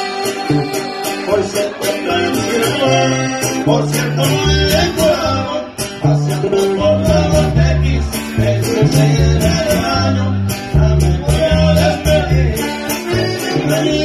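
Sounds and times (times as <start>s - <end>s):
bass line: 0.0s - 14.0s
live band playing: 0.0s - 14.0s
strummed and picked guitars: 0.0s - 14.0s.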